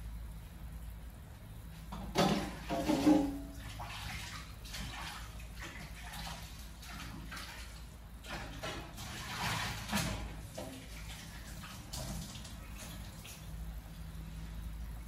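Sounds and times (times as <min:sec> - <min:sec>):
broth boiling in a pot: 0:00.0 - 0:15.0.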